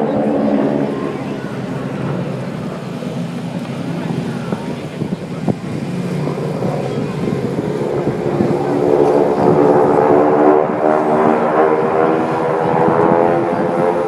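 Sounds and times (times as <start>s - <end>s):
propeller airplane engine droning: 0.0s - 14.0s.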